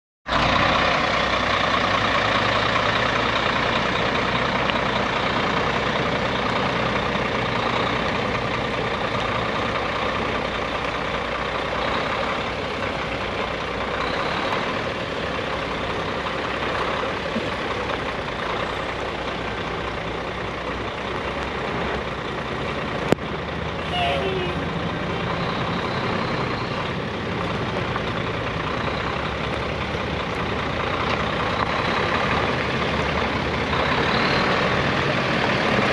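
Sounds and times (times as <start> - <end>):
truck engine running: 0.3 - 35.9.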